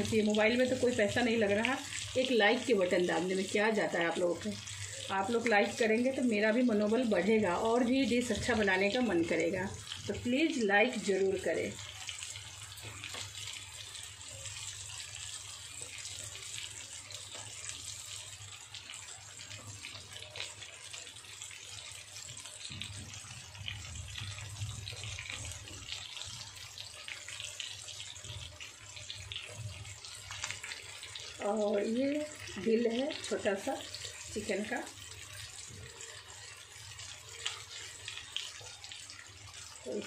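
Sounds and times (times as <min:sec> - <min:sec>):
chicken frying in hot oil: 0:00.0 - 0:40.0.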